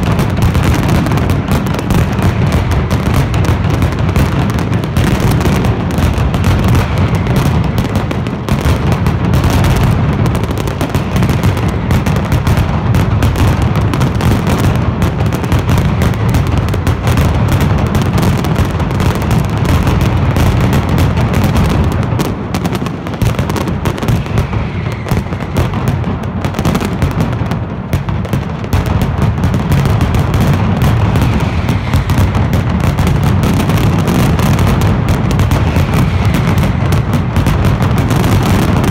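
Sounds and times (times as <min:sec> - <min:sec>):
firecracker barrage: 0:00.0 - 0:38.9.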